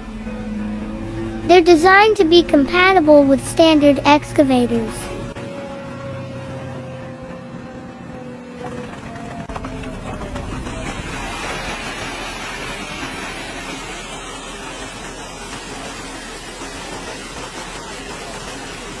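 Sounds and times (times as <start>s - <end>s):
heavy machinery running: 0.0s - 19.0s.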